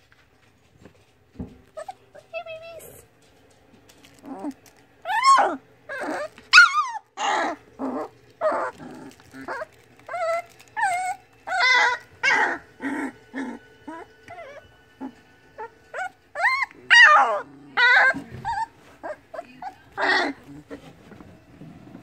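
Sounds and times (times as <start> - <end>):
puppies whining and yelping: 1.7 - 3.0, 4.1 - 22.0.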